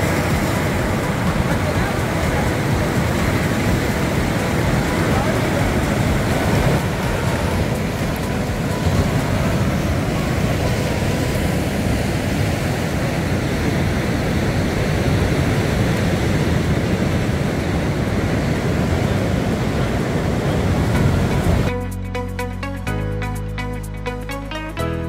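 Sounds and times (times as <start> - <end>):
surf washing over rocks: 0.0 - 21.7
wind rumbling on microphone: 0.0 - 21.7.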